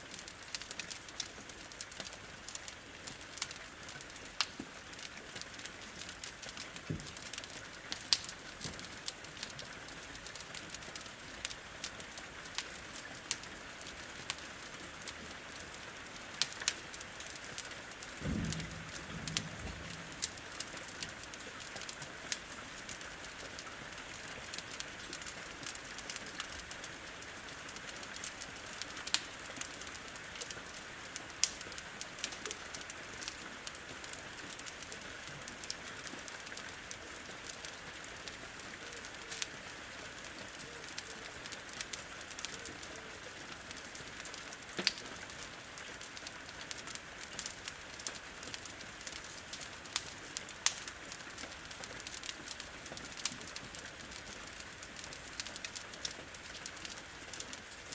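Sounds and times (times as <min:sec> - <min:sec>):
steady rain hiss: 0:00.0 - 0:57.9
wood fire crackling and popping: 0:00.0 - 0:57.9.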